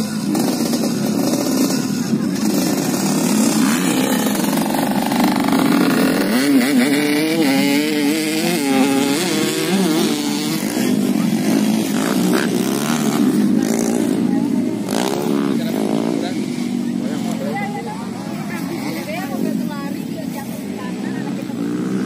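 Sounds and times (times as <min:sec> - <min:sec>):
two-stroke motorcycles racing: 0:00.0 - 0:22.0.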